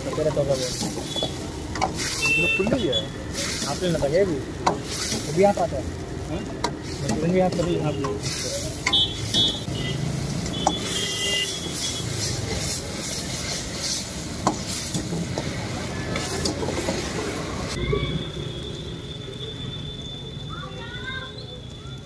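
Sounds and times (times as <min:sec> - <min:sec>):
ladle stirring and scraping wok: 0:00.0 - 0:17.8
food sizzling: 0:00.0 - 0:22.0.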